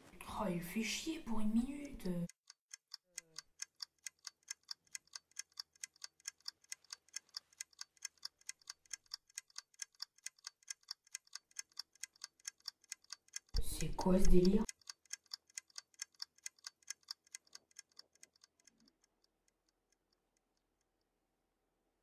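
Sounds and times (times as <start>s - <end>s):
clock ticking: 1.4s - 20.9s.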